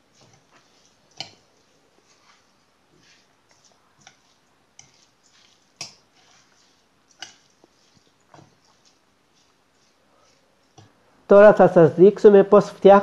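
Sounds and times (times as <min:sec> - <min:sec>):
hand mixing wet stuffing: 0:00.0 - 0:11.8.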